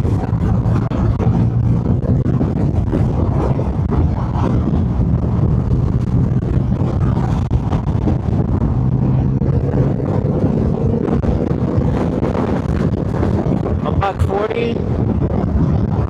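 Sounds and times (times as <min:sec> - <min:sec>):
motorcycle engine cruising: 0:00.0 - 0:16.0
wind noise: 0:00.0 - 0:16.0.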